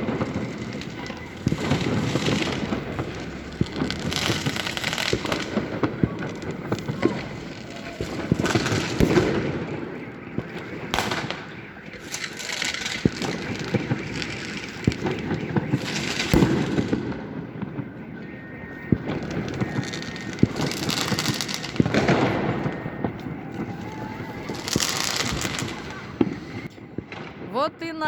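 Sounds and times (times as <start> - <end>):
bursts of crackling: 0.0 - 28.0
fireworks and firecrackers popping: 0.0 - 28.0.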